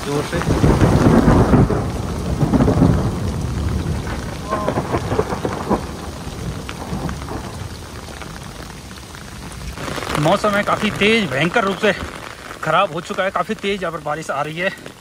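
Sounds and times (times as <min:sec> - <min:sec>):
rolling thunder: 0:00.0 - 0:13.6
heavy rain pattering: 0:00.0 - 0:15.0.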